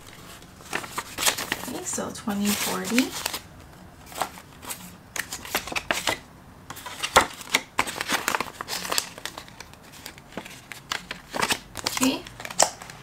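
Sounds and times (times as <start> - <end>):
banknotes rustling: 0.0 - 13.0.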